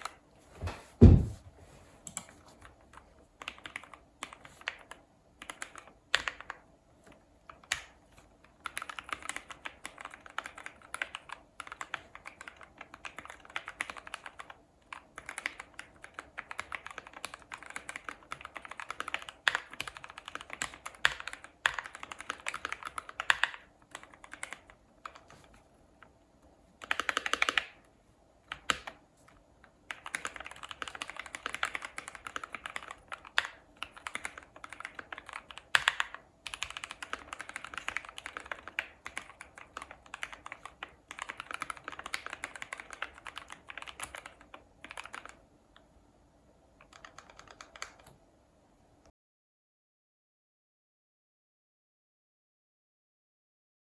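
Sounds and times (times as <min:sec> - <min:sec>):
typing on mechanical keyboard: 0:02.1 - 0:26.2, 0:26.8 - 0:27.8, 0:28.5 - 0:45.5, 0:46.8 - 0:48.2.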